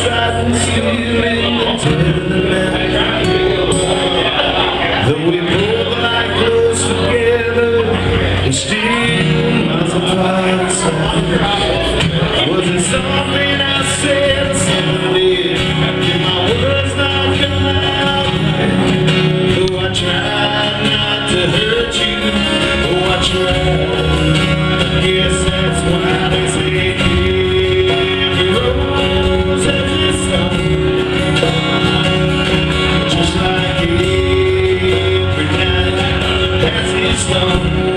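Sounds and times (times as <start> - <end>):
country-rock band playing: 0.0 - 37.9
lead guitar: 0.0 - 37.9.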